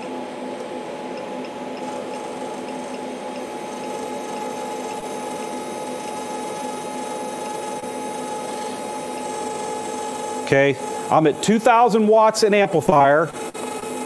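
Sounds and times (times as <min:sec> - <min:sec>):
electrical hum with fixed tones: 0:00.0 - 0:14.0.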